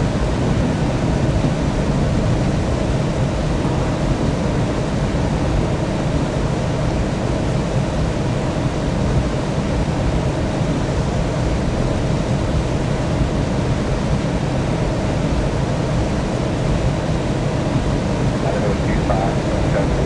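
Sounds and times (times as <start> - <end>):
airliner noise: 0.0 - 20.0.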